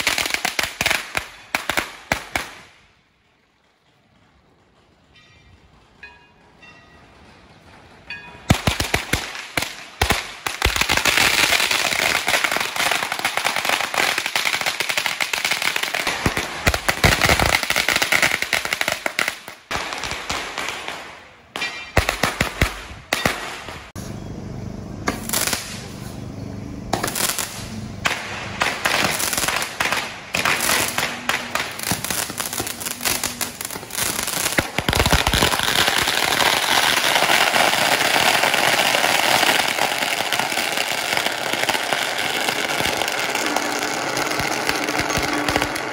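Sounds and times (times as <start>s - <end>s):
firecrackers crackling: 0.0s - 6.1s, 7.6s - 24.2s, 25.0s - 45.9s.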